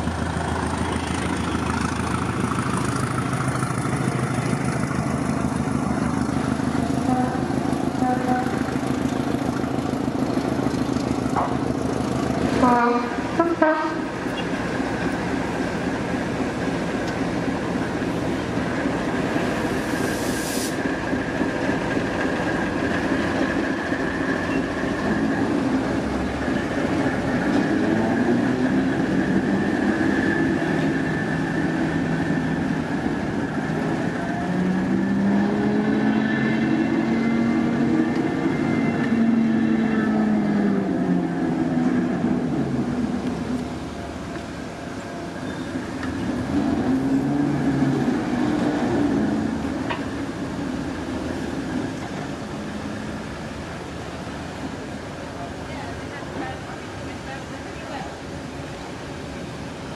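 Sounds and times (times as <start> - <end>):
diesel locomotive rumbling: 0.0 - 59.9.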